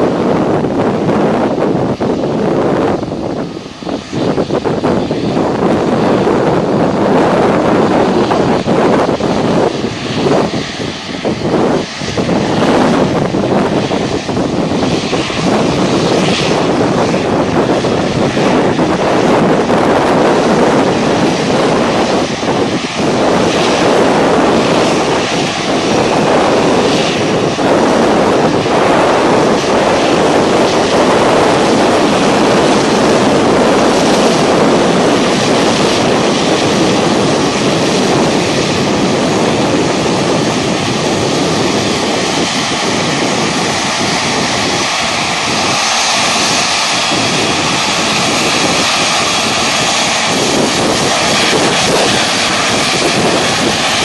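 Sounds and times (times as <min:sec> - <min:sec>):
jet engine rush: 0:00.0 - 0:54.0.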